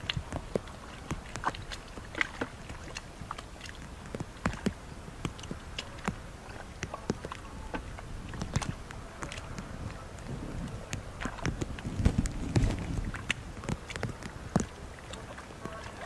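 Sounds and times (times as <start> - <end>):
squelching through mud and water: 0.0 - 16.0.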